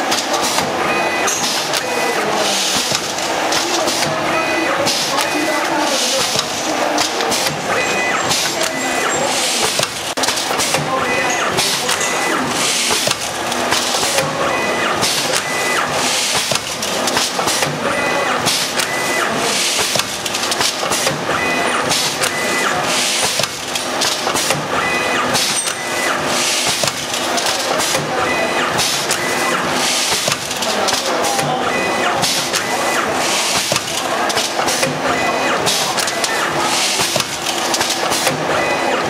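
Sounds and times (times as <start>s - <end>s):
packing machine clatter: 0.0s - 39.0s.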